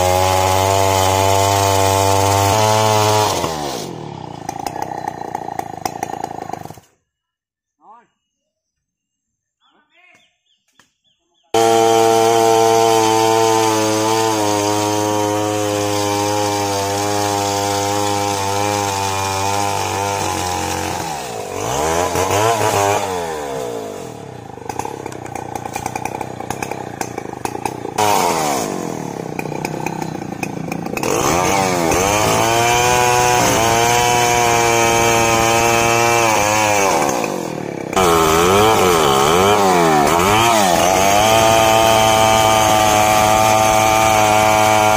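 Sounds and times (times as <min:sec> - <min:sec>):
chainsaw cutting tree trunk: 0:00.0 - 0:06.9, 0:11.5 - 0:44.9.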